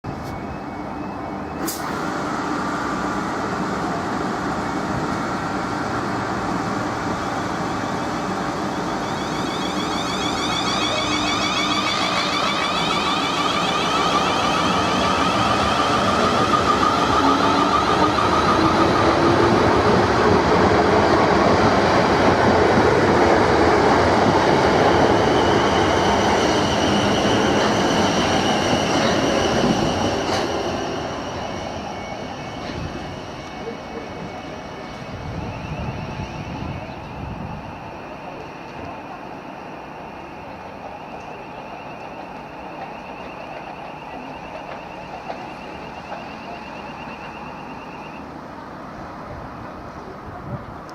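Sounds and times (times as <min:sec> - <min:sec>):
electric train rumbling: 0:00.0 - 0:50.9.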